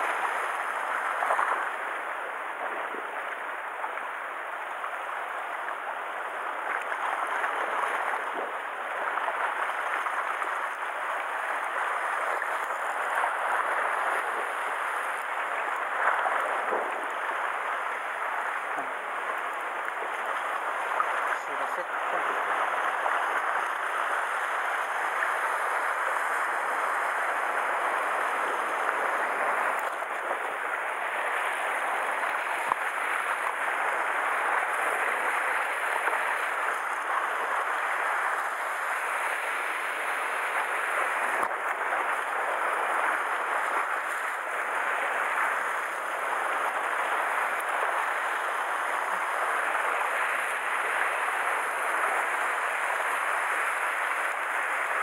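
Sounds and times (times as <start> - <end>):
surf washing over rocks: 0.0 - 55.0.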